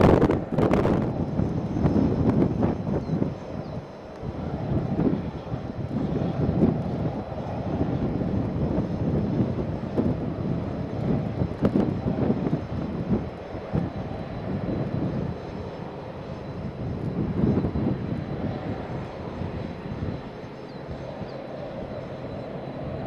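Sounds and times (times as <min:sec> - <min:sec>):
jet engine rumble and whine: 0:00.0 - 0:23.0
wind buffeting microphone: 0:00.0 - 0:23.0.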